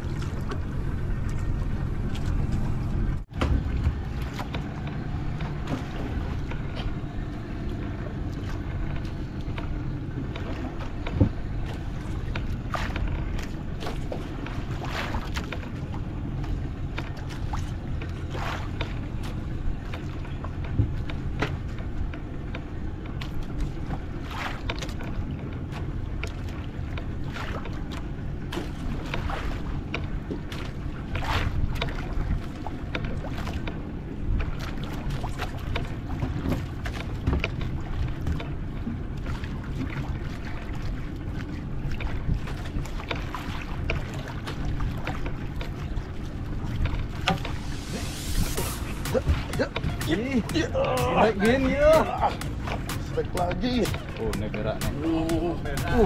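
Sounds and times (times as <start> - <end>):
boat engine low rumble: 0.0 - 56.0
water splashes: 0.0 - 56.0
wind buffeting microphone: 0.0 - 56.0.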